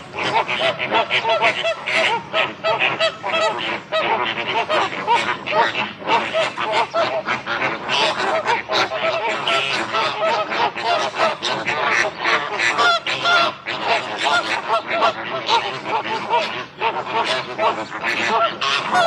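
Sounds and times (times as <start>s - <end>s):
flamingos honking: 0.0s - 19.0s.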